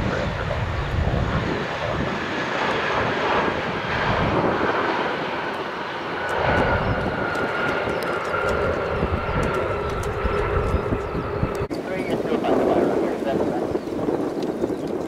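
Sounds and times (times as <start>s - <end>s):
heavy low rumble: 0.0s - 5.6s, 6.2s - 15.0s
jet engines whining: 0.0s - 15.0s.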